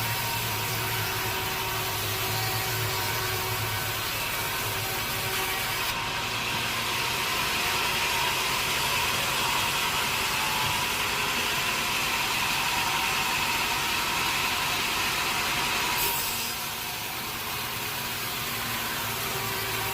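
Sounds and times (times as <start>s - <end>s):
sawmill saw hissing and whining: 0.0s - 19.9s.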